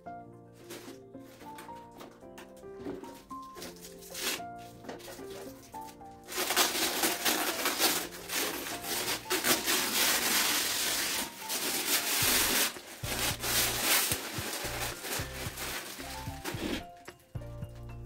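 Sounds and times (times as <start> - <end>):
background music: 0.0 - 18.0
plastic bag crinkling: 0.6 - 17.3.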